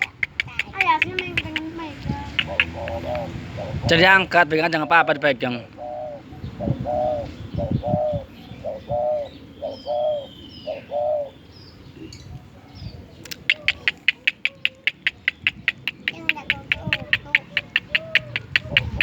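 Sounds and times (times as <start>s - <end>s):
dove cooing: 0.0s - 4.0s, 5.1s - 11.4s, 13.3s - 19.0s.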